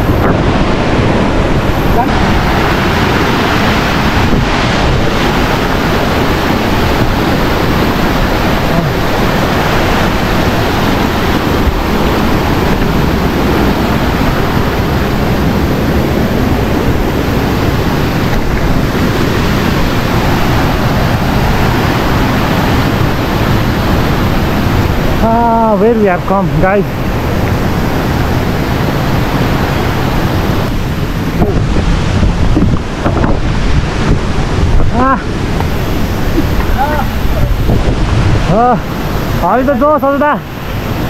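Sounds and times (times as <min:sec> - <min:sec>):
waterfall roaring: 0:00.0 - 0:41.0.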